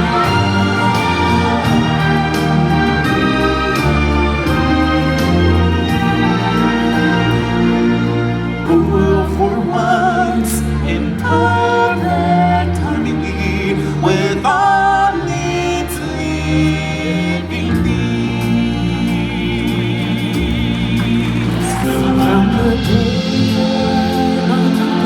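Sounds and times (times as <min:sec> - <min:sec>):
choir singing: 0:00.0 - 0:25.0
musical accompaniment: 0:00.0 - 0:25.0.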